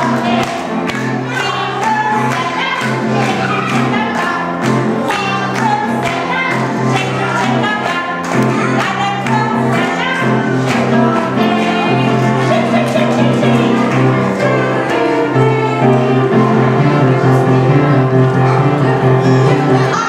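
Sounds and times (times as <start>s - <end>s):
children singing song: 0.0s - 20.0s.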